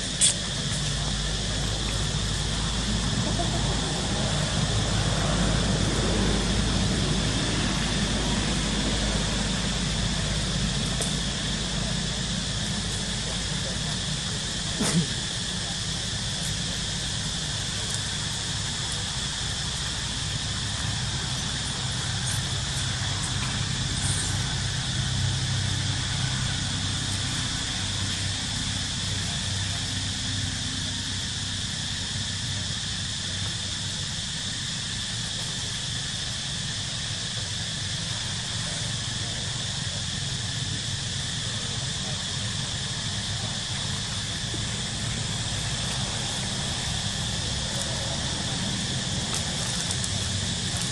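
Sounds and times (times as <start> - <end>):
insect chorus droning: 0.0 - 50.9.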